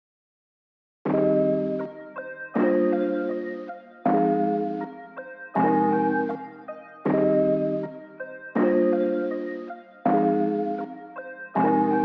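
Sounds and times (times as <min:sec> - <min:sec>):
melody notes over a chord: 0:01.1 - 0:12.0.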